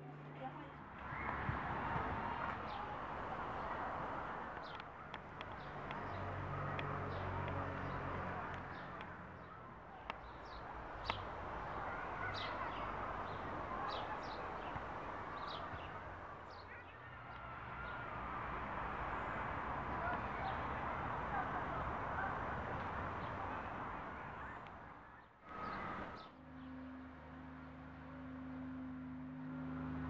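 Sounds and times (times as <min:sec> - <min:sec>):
outdoor background noise: 0:00.0 - 0:30.0
small birds chirping: 0:01.0 - 0:26.9.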